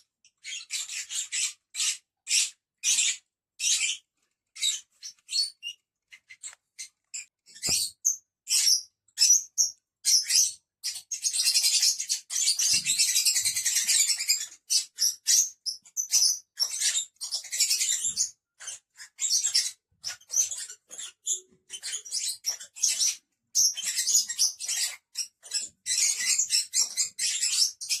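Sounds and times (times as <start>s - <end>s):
lovebirds chattering: 0.4s - 4.0s, 4.6s - 28.0s.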